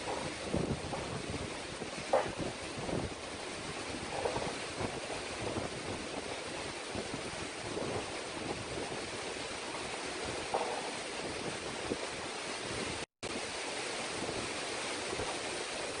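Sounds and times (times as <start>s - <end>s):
rough surf churning: 0.0s - 16.0s
storm wind: 0.0s - 16.0s.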